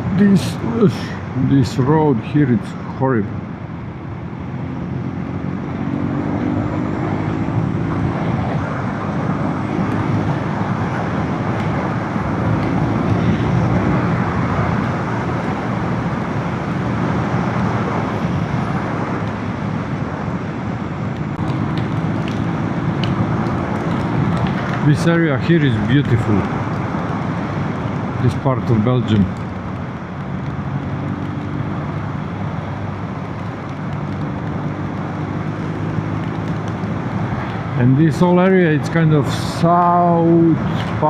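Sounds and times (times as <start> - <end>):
tyre noise on rough road: 1.7 - 41.0.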